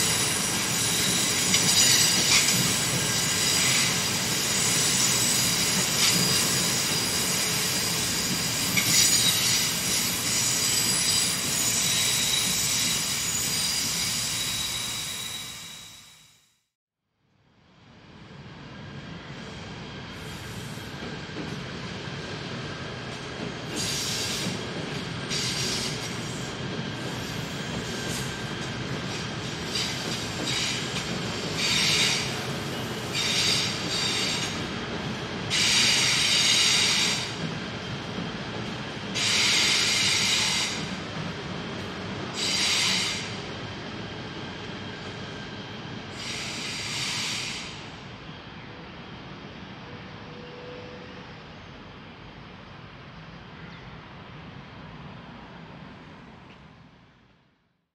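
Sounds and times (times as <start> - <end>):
train wheels rumbling on rail: 0.0 - 16.2, 18.1 - 52.7.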